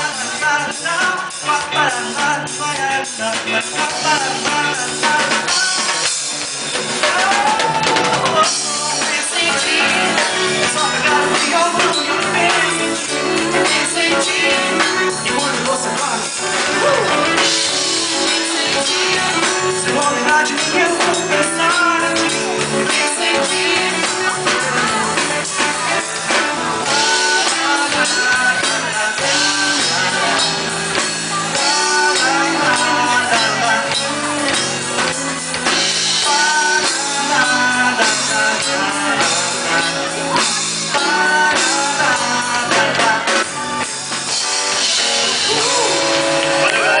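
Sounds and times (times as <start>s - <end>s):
person singing: 0.0s - 47.0s
rock band playing: 0.0s - 47.0s.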